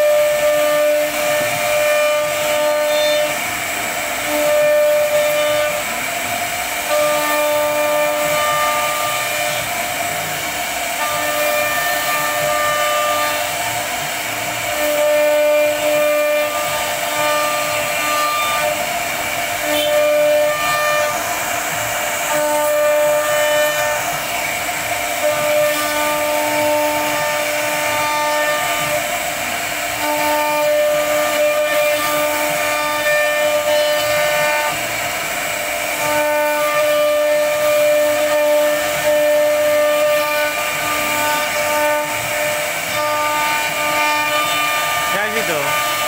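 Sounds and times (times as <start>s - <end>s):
router spindle high-pitched whine: 0.0s - 46.0s.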